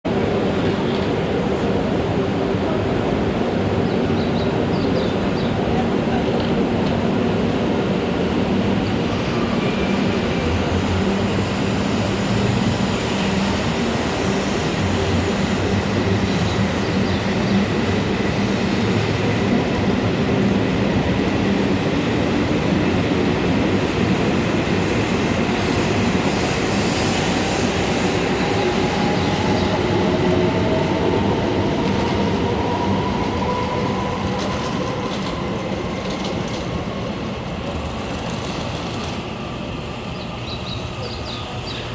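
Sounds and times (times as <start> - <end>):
train running rumble: 0.1 - 41.9.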